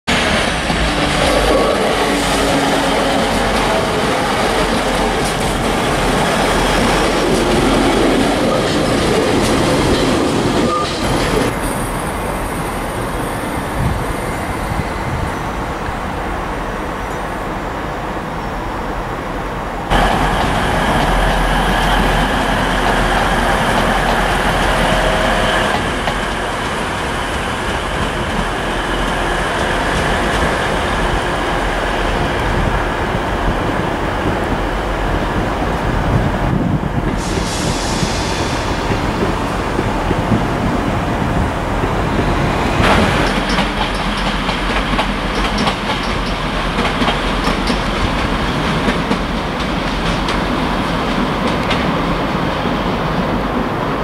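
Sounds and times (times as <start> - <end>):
diesel train running past: 0.1 - 54.0
train approaching: 0.1 - 54.0.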